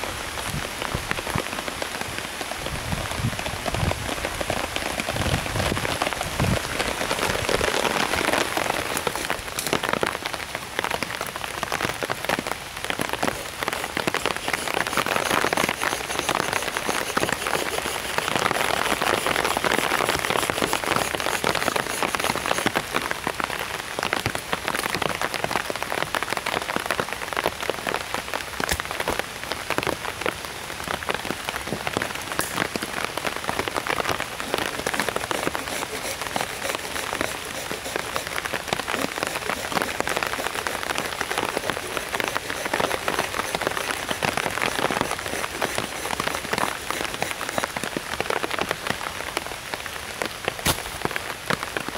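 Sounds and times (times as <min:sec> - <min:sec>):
rain pattering on a shelter: 0:00.0 - 0:51.9.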